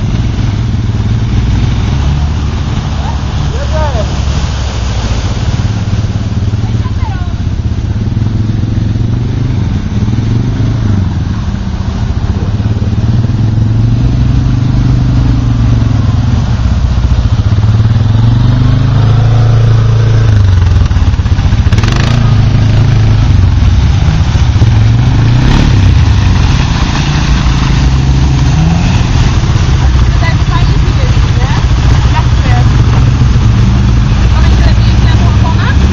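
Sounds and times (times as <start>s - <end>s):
another quad engine droning: 0.0s - 35.9s
quad engine revving: 0.0s - 35.9s.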